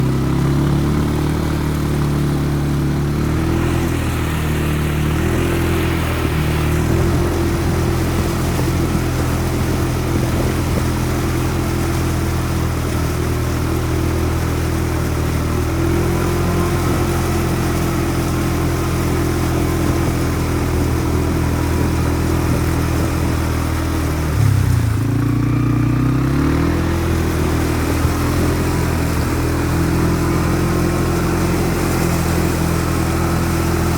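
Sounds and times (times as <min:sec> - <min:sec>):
buggy engine revving: 0:00.0 - 0:33.9.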